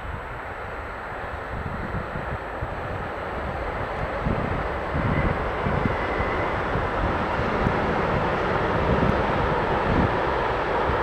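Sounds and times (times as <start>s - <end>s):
freight train rumbling: 0.0s - 11.0s.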